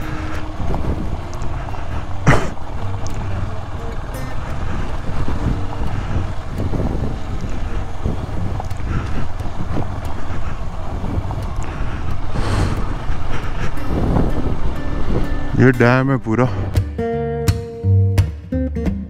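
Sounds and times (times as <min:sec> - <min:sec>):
motorcycle engine running: 0:00.0 - 0:15.6
wind on microphone: 0:00.0 - 0:15.9.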